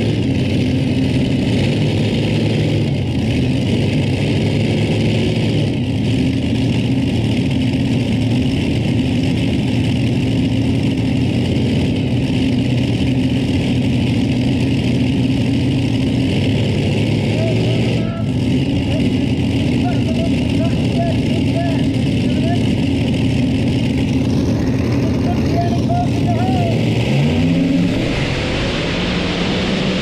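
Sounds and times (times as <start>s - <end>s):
tractor engine running loud: 0.0s - 30.0s.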